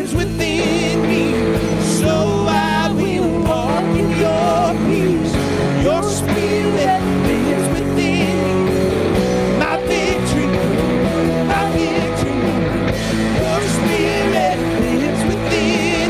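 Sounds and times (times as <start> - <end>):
rock band playing worship song: 0.0 - 16.0.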